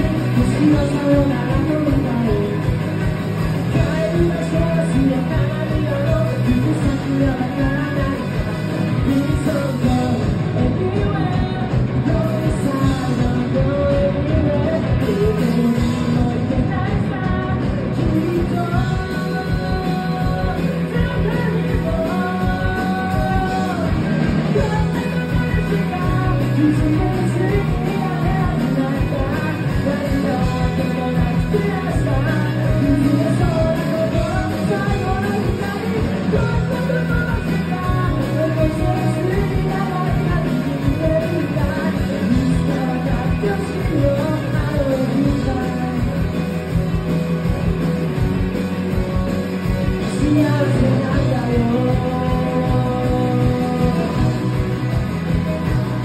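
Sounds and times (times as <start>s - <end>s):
person singing: 0.0s - 47.0s, 49.0s - 56.0s
crowd: 0.0s - 56.0s
drums: 0.0s - 56.0s
electric guitars: 0.0s - 56.0s.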